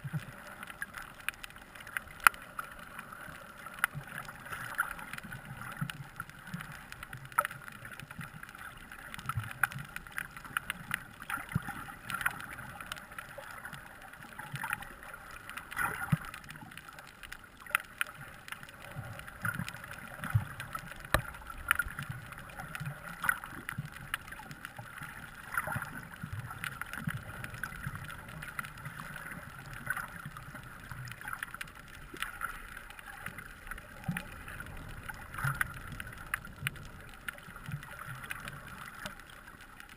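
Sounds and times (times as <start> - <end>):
muffled underwater water wash: 0.0 - 39.9
sharp clicks and crackles: 0.0 - 39.9.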